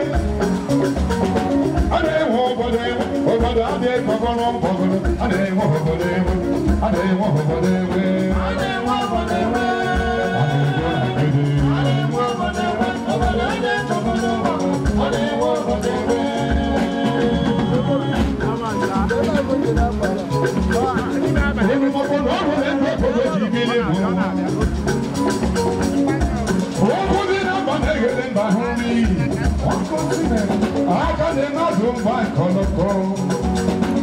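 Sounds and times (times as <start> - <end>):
person singing: 0.0 - 24.8, 25.6 - 34.0
live band with guitars and drums: 0.0 - 34.0.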